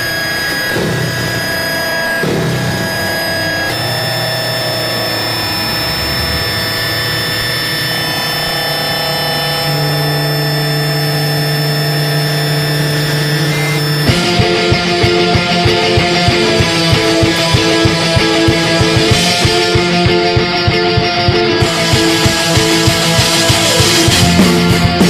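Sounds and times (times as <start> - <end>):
band with drums and distorted guitar: 0.0 - 25.0
loud low drone: 0.0 - 25.0
noise-rock drone: 0.0 - 25.0.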